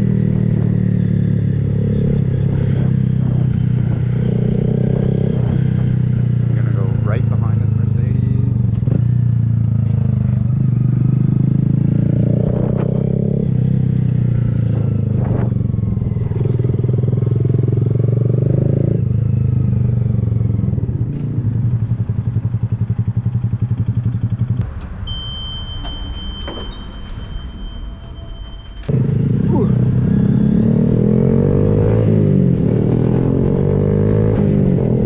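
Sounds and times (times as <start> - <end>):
motorcycle engine while riding: 0.0 - 25.2, 28.9 - 35.0.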